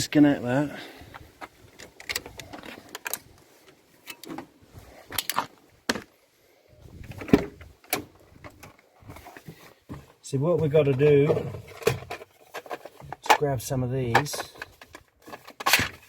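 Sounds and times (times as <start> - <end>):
clicks and knocks of handling gear: 1.0 - 6.2, 6.9 - 16.0.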